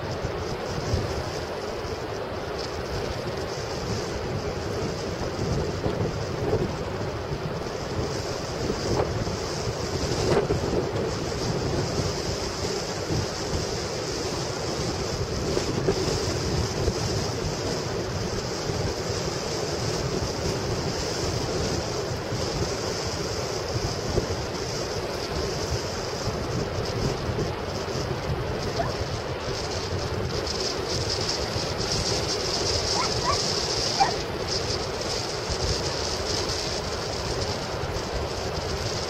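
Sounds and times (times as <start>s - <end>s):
surf breaking on beach: 0.0s - 39.0s
wind buffeting microphone: 0.0s - 39.0s.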